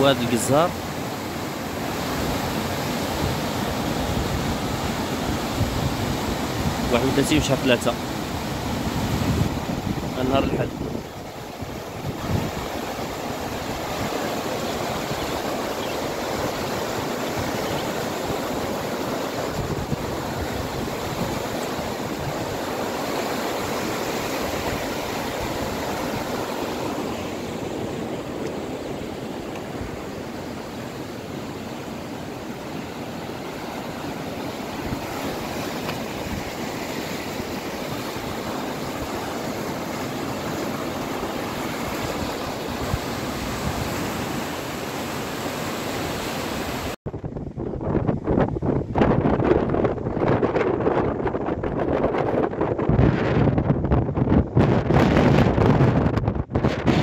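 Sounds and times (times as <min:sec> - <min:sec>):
river rushing and churning: 0:00.0 - 0:47.0.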